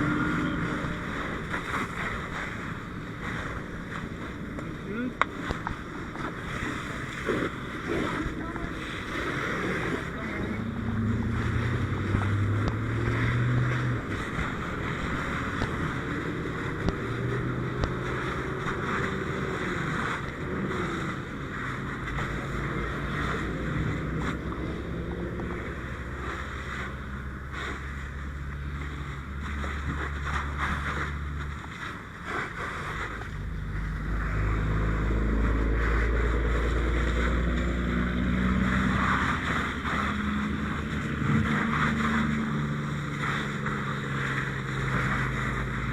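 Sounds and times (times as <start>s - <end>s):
engine running: 0.0s - 45.9s
fire hose spraying water: 0.0s - 45.9s.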